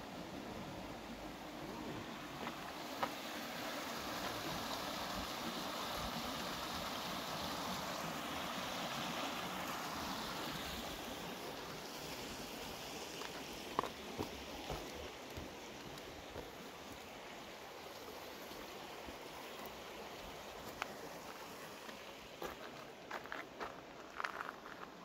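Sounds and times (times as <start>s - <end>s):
creek water flowing: 0.0s - 25.0s.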